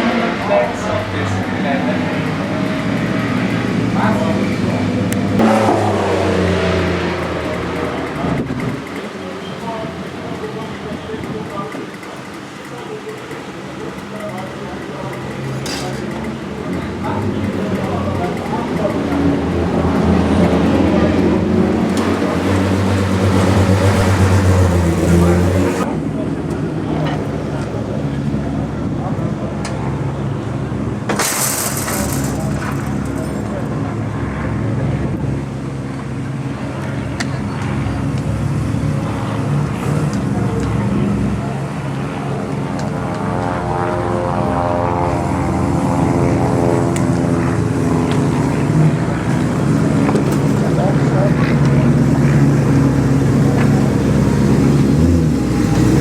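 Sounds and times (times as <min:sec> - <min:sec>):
race car engine running: 0:00.0 - 0:43.2, 0:46.2 - 0:56.0.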